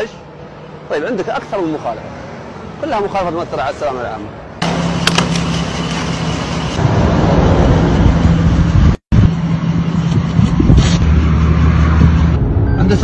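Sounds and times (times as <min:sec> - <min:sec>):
road and wind noise: 0:00.0 - 0:13.0
vehicle engine hum: 0:00.0 - 0:13.0.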